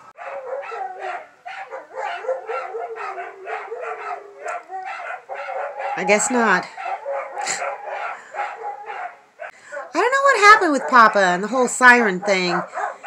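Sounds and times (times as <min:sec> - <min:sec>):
dogs barking and howling: 0:00.1 - 0:13.0.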